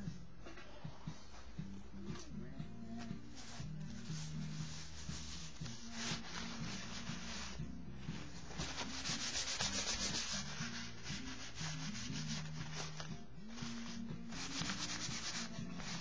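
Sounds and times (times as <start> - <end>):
paper towel rubbing on paper: 3.0 - 16.0.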